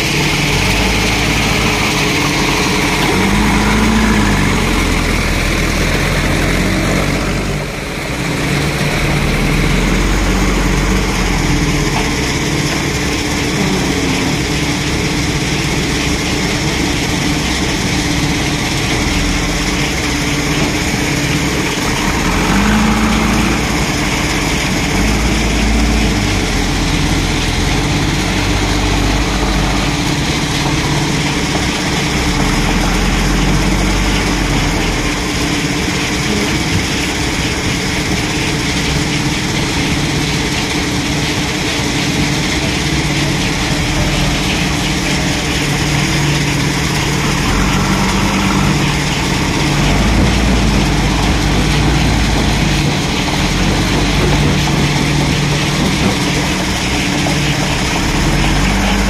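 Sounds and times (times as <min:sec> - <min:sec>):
diesel engine of backhoe loader: 0:00.0 - 0:59.0.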